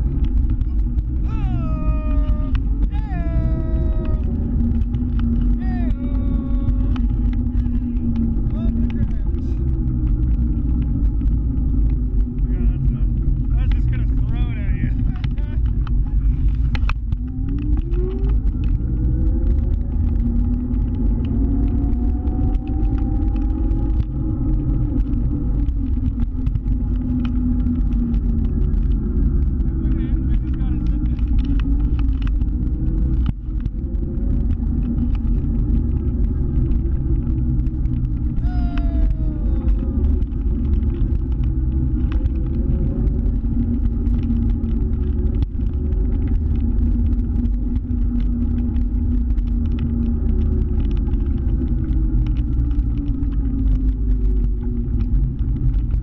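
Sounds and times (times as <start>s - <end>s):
scooter low rumble: 0.0s - 56.0s
small clicks and ticks: 0.0s - 56.0s
whine rising in pitch: 0.0s - 56.0s.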